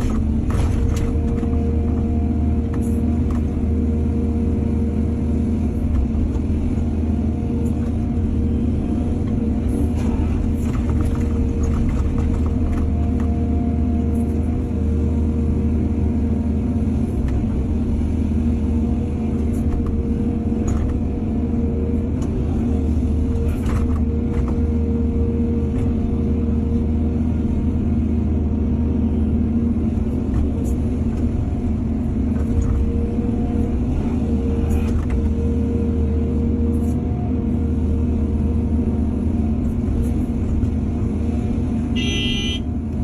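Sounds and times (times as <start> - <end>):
excavator diesel engine rumble: 0.0 - 43.0.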